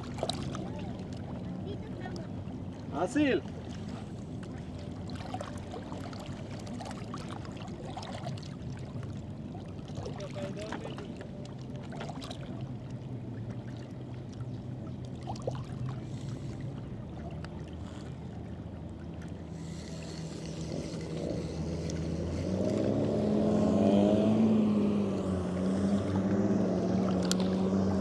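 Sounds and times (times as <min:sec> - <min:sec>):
motorboat engine humming: 0:00.0 - 0:28.0.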